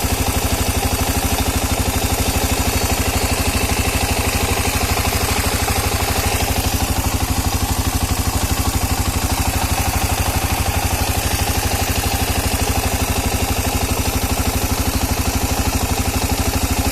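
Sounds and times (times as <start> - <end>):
engine idling with knock: 0.0 - 16.9.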